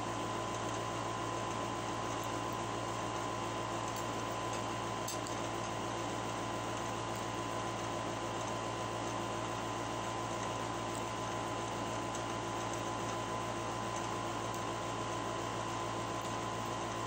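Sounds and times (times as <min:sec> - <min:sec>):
appliance hum and hiss: 0:00.0 - 0:17.0.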